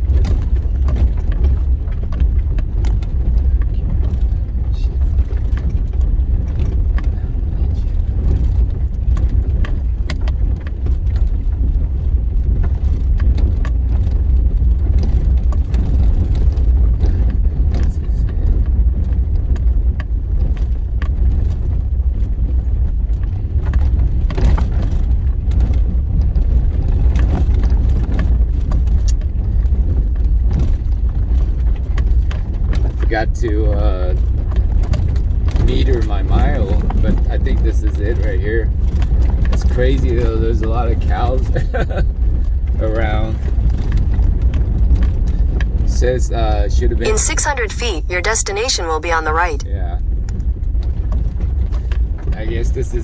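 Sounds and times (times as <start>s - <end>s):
vehicle rumbling on dirt road: 0.0s - 47.1s, 49.9s - 53.0s.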